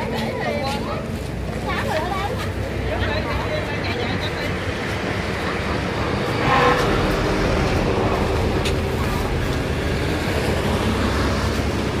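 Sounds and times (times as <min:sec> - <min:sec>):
engine humming: 0:01.1 - 0:12.0.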